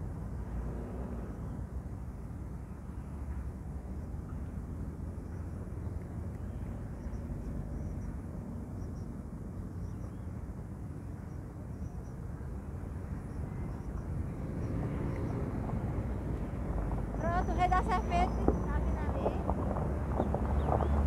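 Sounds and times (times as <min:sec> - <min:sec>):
truck engine and tyre rumble: 0:00.0 - 0:21.0.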